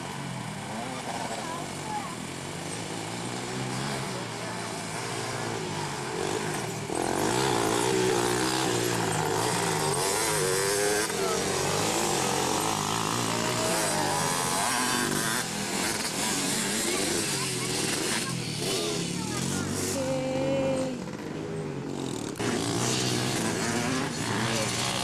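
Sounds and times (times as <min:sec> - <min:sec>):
racing engines revving: 0:00.0 - 0:25.0.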